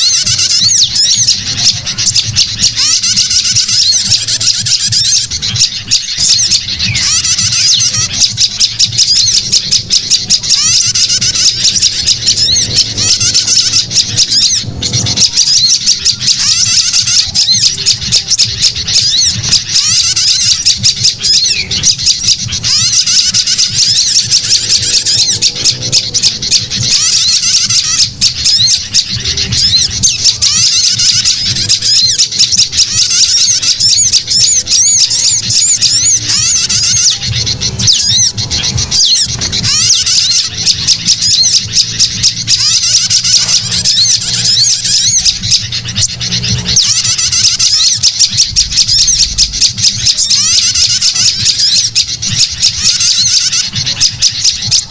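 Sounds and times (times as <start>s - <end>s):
songbirds chirping and squawking: 0.0s - 54.9s.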